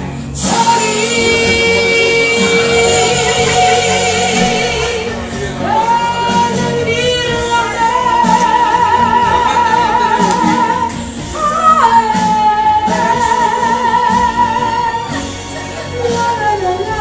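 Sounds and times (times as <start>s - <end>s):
musical accompaniment: 0.0s - 17.0s
woman singing with vibrato: 0.3s - 17.0s.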